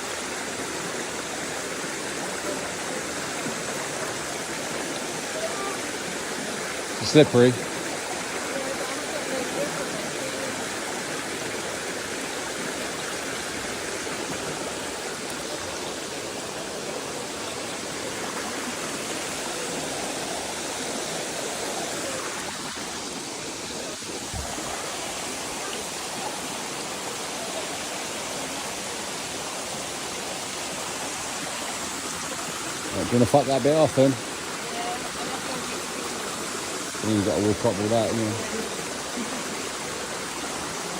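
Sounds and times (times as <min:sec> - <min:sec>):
fast-flowing water rushing: 0:00.0 - 0:40.9.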